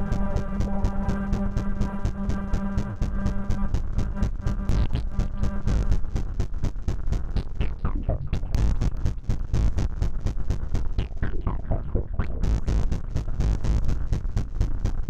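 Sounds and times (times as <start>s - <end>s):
heavy bass drone: 0.0s - 15.0s
stuttering synth clicks: 0.1s - 15.0s.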